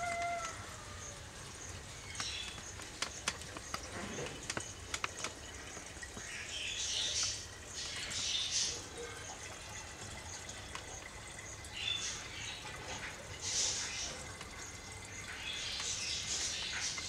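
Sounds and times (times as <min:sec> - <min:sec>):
water running through sensor: 0:00.0 - 0:17.0.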